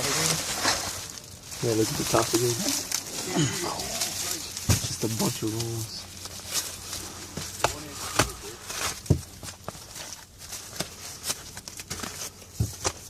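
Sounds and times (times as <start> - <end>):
wrapping rustling: 0.0 - 13.0.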